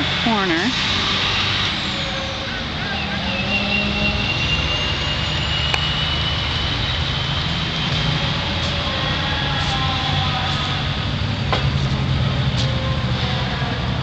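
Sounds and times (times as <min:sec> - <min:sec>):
heavy vehicle engine rumble: 0:00.0 - 0:14.0
high whine rising in pitch: 0:00.0 - 0:14.0.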